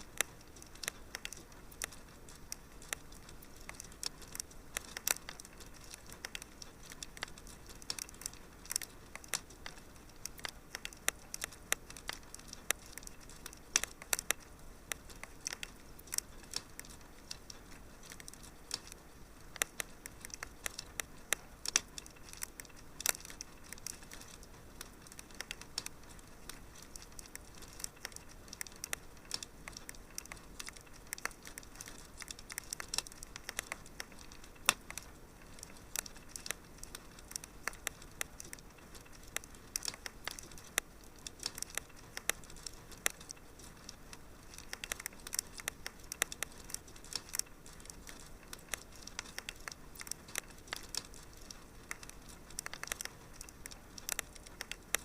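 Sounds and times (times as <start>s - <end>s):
fire crackling in a fireplace: 0.0s - 55.0s.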